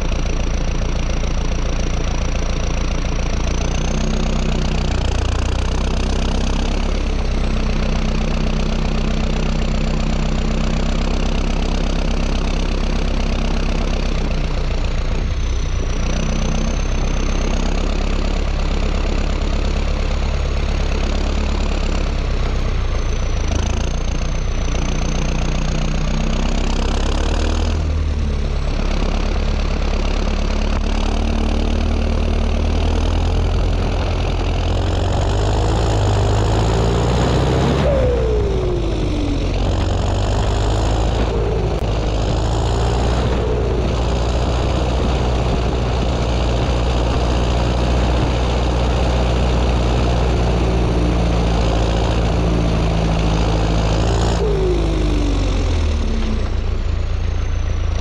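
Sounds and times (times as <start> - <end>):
tractor diesel engine drone: 0.0 - 58.0.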